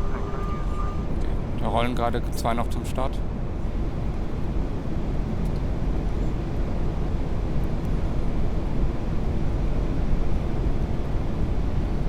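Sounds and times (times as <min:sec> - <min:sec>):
cockpit airflow and engine rush: 0:00.0 - 0:12.0.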